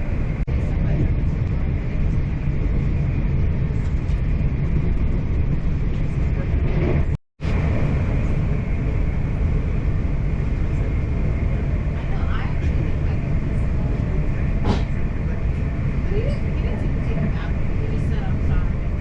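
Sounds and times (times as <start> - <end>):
train rumbling on track: 0.0 - 19.0.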